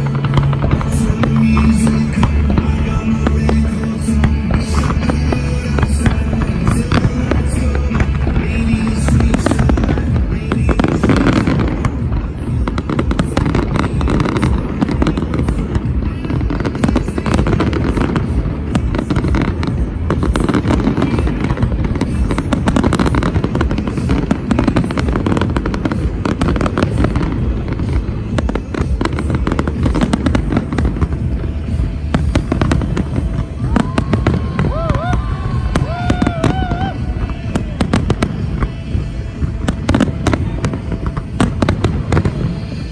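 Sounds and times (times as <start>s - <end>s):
fireworks cracking and banging: 0.0s - 42.9s
music playing: 0.0s - 42.9s.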